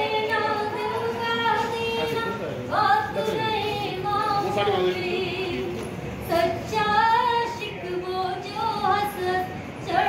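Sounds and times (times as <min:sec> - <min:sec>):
girl singing unaccompanied: 0:00.0 - 0:10.0.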